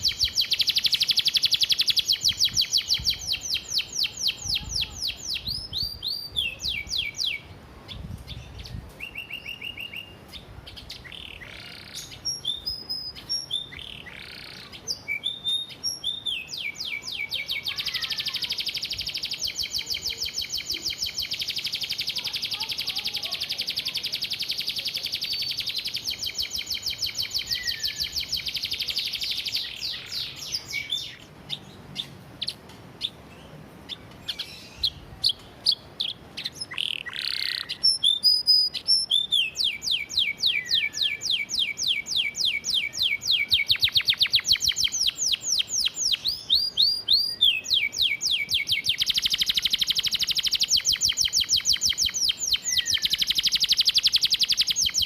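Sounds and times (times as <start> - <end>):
canary singing fast trills: 0.0 - 55.0.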